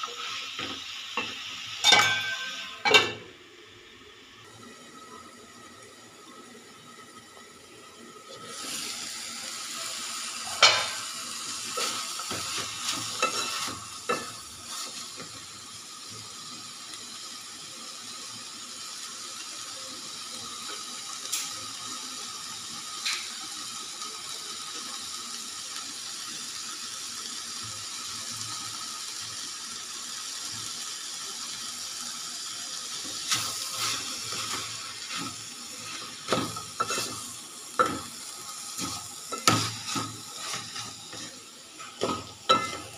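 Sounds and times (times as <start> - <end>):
curry sizzling in a pan: 0.0 - 42.9.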